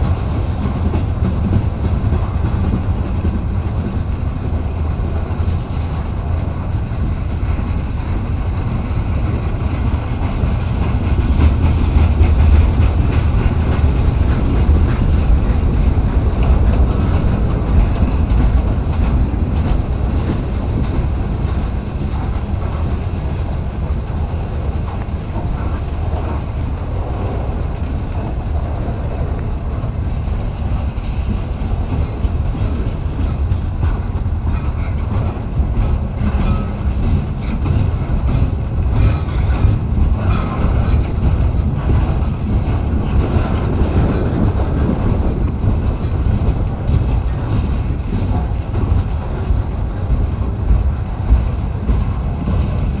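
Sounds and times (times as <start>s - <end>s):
freight train rumbling: 0.0s - 53.0s
wheels clacking over track: 0.0s - 53.0s.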